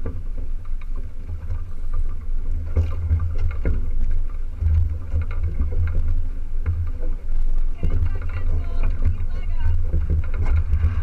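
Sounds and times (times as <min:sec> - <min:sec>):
water splashing at hull: 0:00.0 - 0:11.0
wind buffeting microphone: 0:00.0 - 0:11.0.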